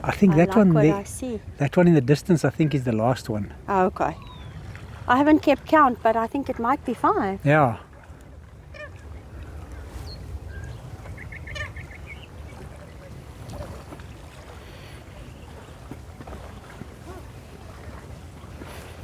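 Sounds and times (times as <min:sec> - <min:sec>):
waterbirds calling: 0:00.0 - 0:19.0.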